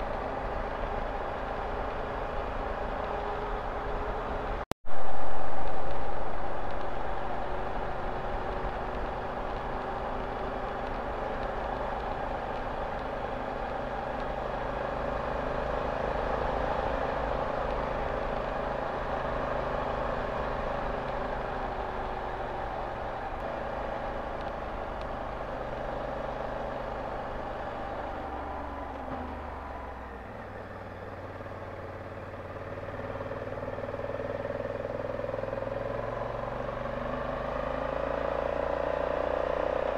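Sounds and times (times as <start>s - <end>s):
wind and road noise: 0.0s - 39.9s
motorcycle engine: 5.6s - 39.9s.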